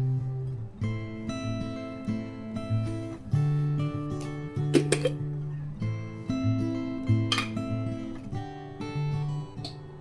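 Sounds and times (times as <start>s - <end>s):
acoustic guitar plucked notes: 0.0s - 10.0s.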